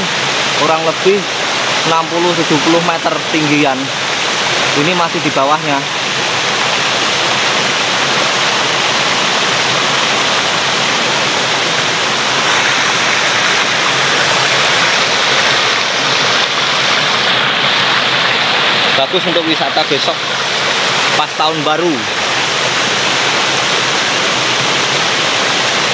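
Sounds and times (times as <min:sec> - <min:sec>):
waterfall rushing over stone: 0:00.0 - 0:25.9.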